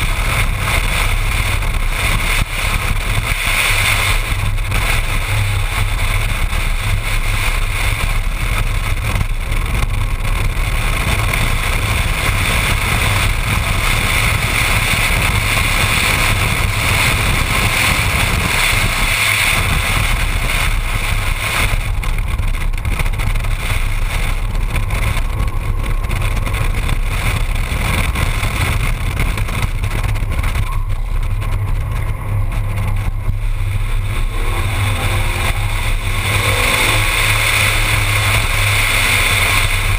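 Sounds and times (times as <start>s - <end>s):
car engine drone: 0.0s - 39.9s
wind rushing over microphone: 0.0s - 39.9s.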